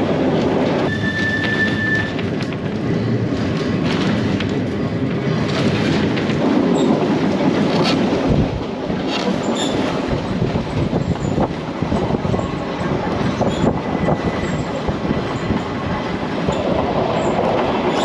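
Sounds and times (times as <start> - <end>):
tram rumbling along track: 0.0 - 18.0.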